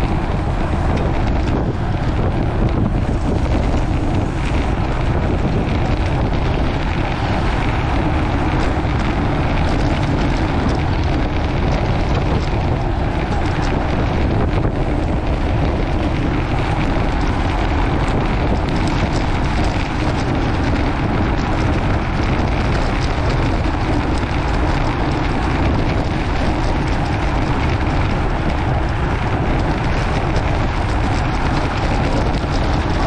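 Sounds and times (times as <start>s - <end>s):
bicycle tyres on rough asphalt: 0.0s - 33.0s
wind rushing over microphone: 0.0s - 33.0s.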